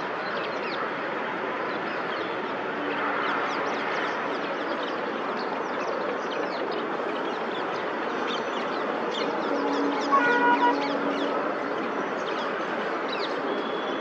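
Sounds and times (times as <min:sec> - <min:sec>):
chorus of small birds chirping: 0:00.0 - 0:14.0.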